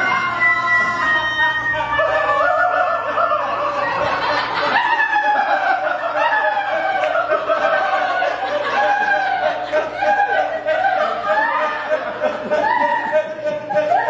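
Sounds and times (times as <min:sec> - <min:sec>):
person cackling laugh: 0:01.0 - 0:14.0.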